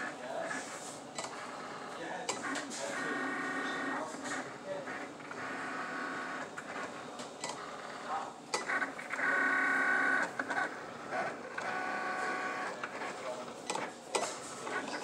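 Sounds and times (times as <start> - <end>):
cutting machine motors whining: 0.0 - 15.0.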